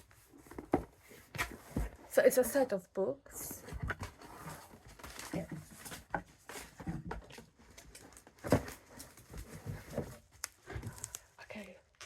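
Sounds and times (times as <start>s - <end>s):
cardboard rustling and tapping: 0.0s - 2.6s, 3.4s - 11.2s.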